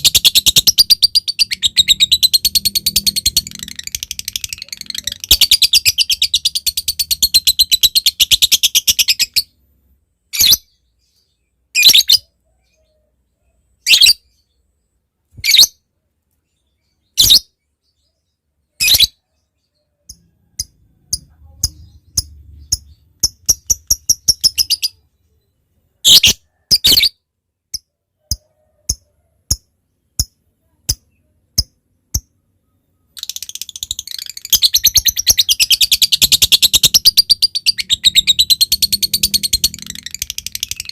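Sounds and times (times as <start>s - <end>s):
lovebird chirping and chattering: 0.0s - 9.7s, 10.3s - 13.0s, 16.5s - 40.9s.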